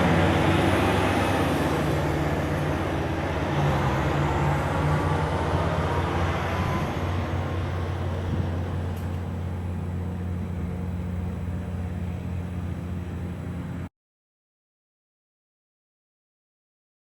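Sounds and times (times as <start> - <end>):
tyre and road rush: 0.0 - 13.9
vehicle engine hum: 0.0 - 13.9.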